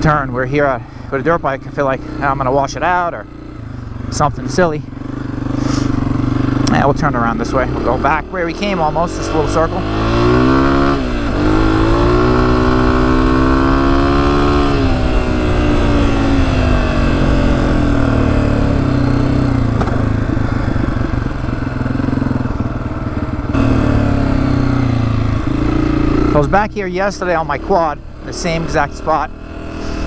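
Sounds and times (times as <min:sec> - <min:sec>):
dirt bike engine: 0:00.0 - 0:30.0.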